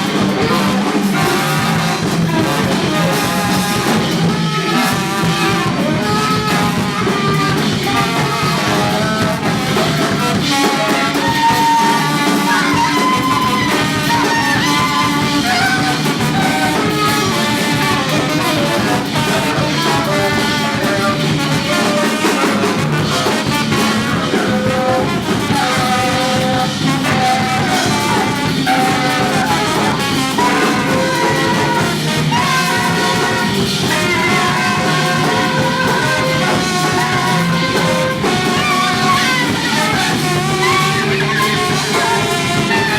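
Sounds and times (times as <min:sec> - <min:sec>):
bass: 0:00.0 - 0:42.9
drums: 0:00.0 - 0:42.9
saxophone: 0:00.0 - 0:42.9
trombone: 0:00.0 - 0:42.9.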